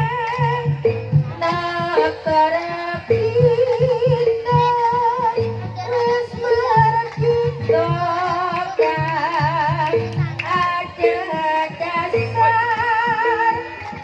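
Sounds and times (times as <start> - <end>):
low drum beat: 0.0 - 14.0
woman singing with vibrato: 0.0 - 14.0.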